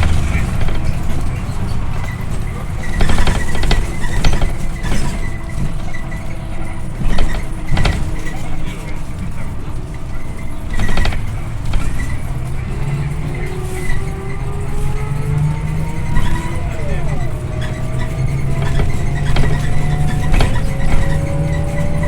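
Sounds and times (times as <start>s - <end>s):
bus engine and road rumble: 0.0s - 22.0s
bus fittings rattling and knocking: 0.0s - 22.0s.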